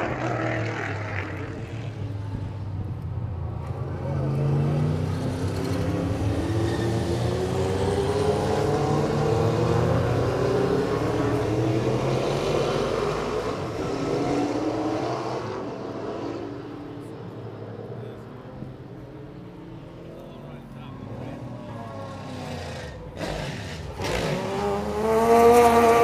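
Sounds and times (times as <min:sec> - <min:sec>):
race car engines accelerating: 0:00.0 - 0:26.0.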